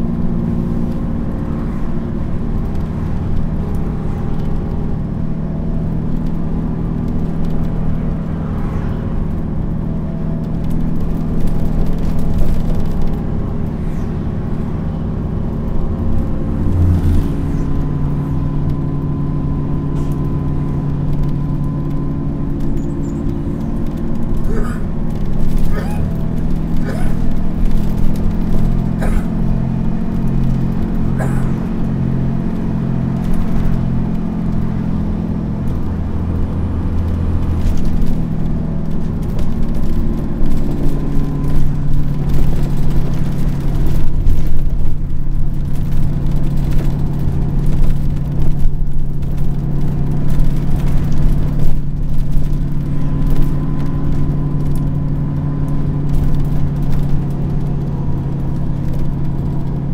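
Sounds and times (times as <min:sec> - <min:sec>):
bus engine droning under load: 0:00.0 - 0:59.9.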